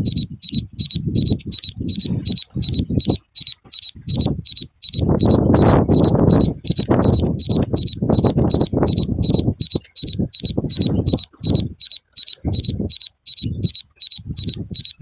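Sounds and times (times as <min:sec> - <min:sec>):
phone alarm beeping: 0:00.0 - 0:15.0
wind buffeting microphone: 0:00.0 - 0:15.0.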